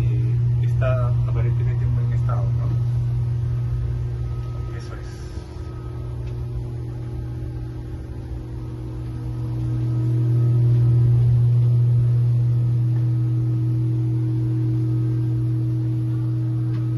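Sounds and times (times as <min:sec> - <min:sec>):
faint higher tones: 0:00.0 - 0:16.9
low-pitched hum: 0:00.0 - 0:16.9.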